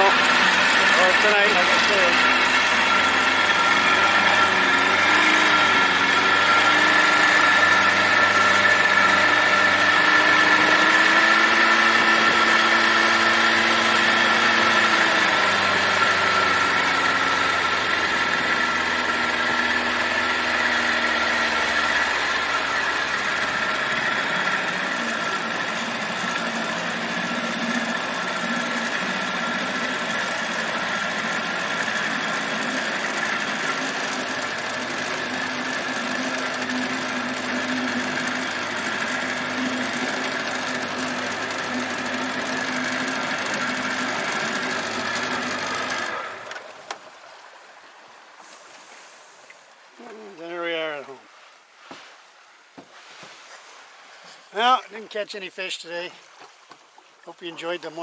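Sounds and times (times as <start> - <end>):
boat motor running: 0.0 - 58.0.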